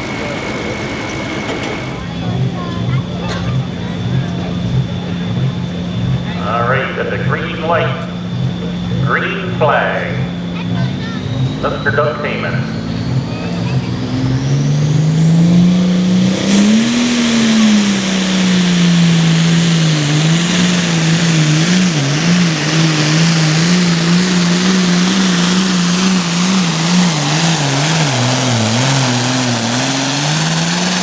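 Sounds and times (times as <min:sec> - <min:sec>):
tractor diesel engine under load: 0:00.0 - 0:31.0.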